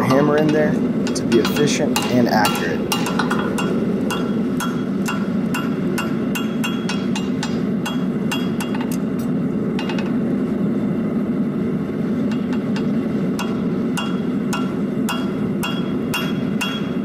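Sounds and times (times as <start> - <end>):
hammer ringing on anvil: 0.0 - 9.0, 12.3 - 17.0
low hum: 0.0 - 17.0.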